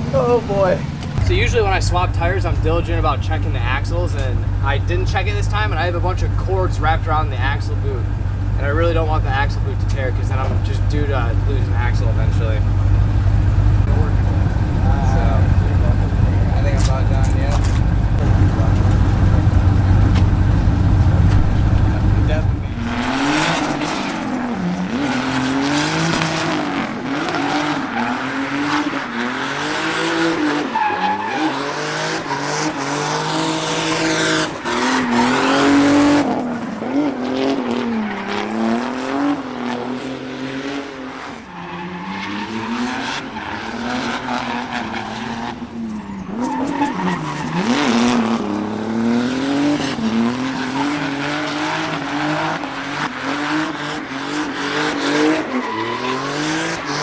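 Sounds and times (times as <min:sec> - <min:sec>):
tyres squealing and skidding: 0:00.0 - 0:38.8, 0:41.2 - 0:57.0
car engine revving: 0:00.0 - 0:57.0.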